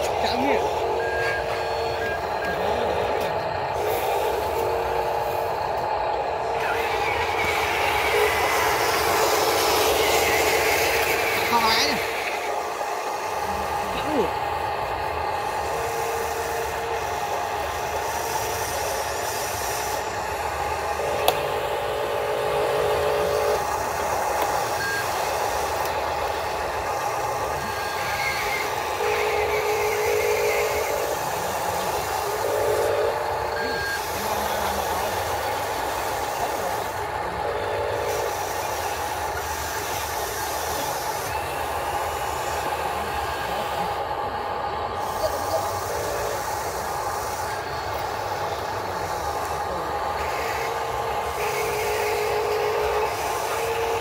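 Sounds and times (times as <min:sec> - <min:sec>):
electric pump and motors whining: 0:00.0 - 0:54.0
lower stepped whine: 0:00.0 - 0:54.0.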